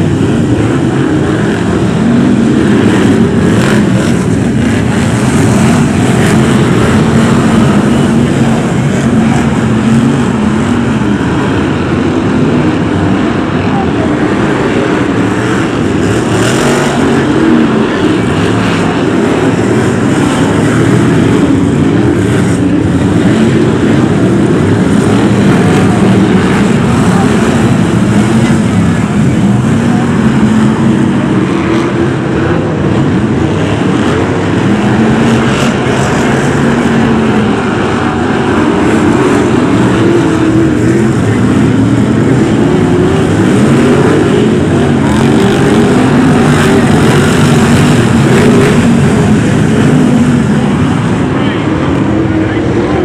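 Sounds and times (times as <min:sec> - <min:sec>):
racing car engines droning: 0:00.0 - 0:53.0.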